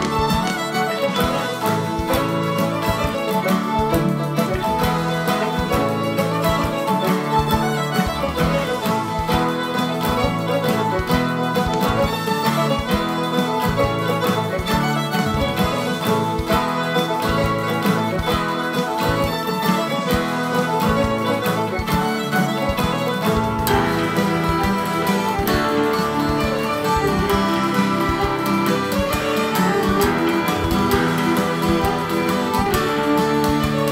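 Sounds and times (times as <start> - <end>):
fiddle playing a jig: 0.0 - 33.9
guitar accompaniment: 0.0 - 33.9.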